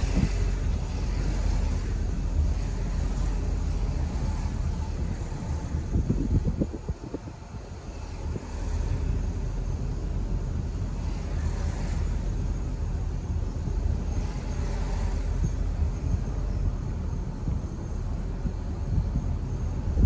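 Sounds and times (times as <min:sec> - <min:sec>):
car tyres and engine rumble: 0:00.0 - 0:20.0.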